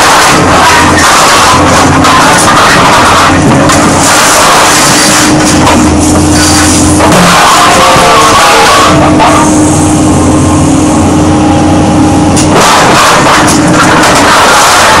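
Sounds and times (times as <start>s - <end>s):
metal grinding and creaking: 0.0s - 9.6s, 12.3s - 15.0s
excavator engine and hydraulics: 0.0s - 15.0s.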